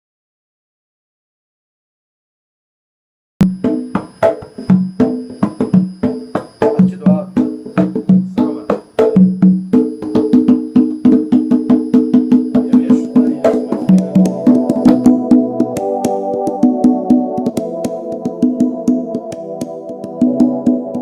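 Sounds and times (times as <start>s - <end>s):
hand drums playing a rhythm: 3.5s - 21.0s.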